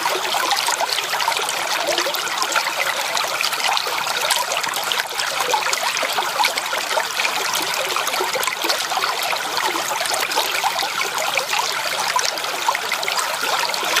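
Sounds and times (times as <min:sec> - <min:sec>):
creek water trickling over stones: 0:00.0 - 0:14.0.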